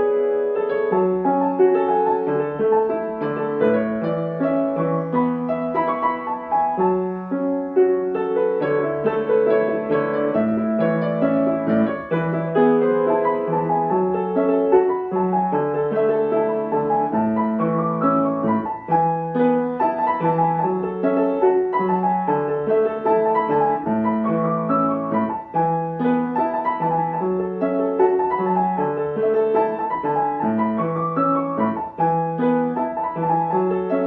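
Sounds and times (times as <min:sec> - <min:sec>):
solo upright piano: 0:00.0 - 0:34.0.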